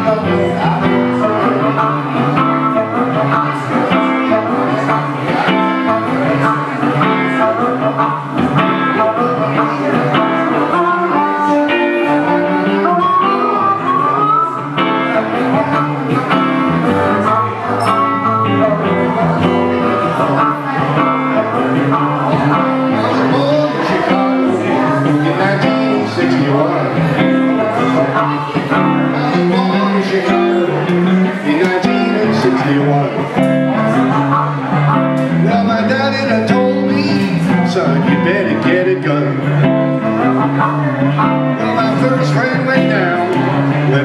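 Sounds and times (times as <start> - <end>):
electric guitar rhythm: 0.0 - 44.0
harmonica sliding notes: 0.0 - 44.0.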